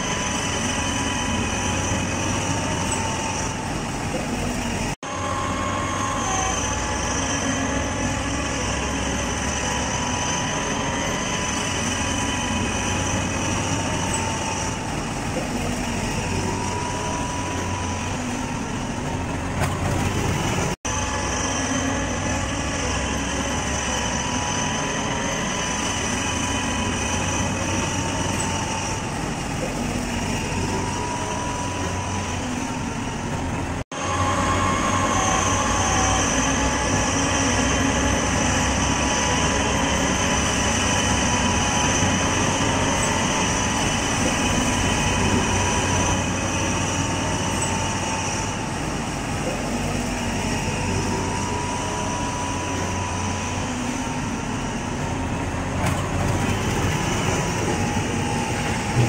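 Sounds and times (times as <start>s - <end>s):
high whine: 0.0s - 55.6s, 57.2s - 59.0s
rail vehicle rumbling: 0.0s - 59.0s.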